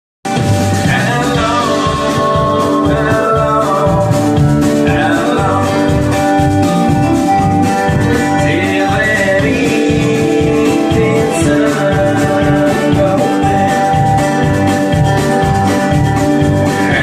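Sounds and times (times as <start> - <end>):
live band playing: 0.2 - 17.0.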